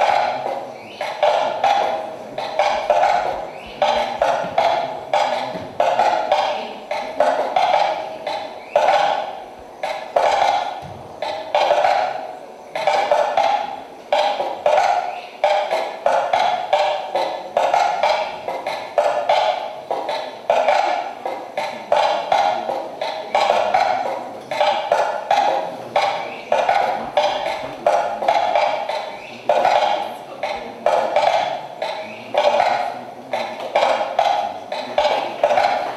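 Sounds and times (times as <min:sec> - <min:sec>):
ringing percussive knocks: 0:00.0 - 0:35.9.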